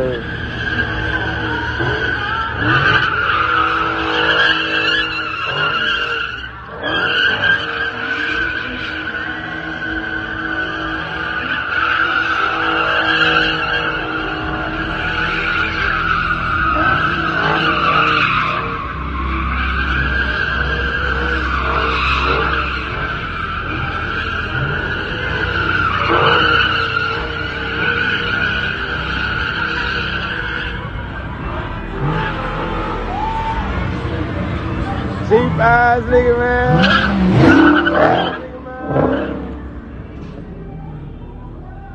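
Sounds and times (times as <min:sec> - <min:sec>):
car engine running: 0:00.0 - 0:41.9
car tyres squealing: 0:00.0 - 0:41.9.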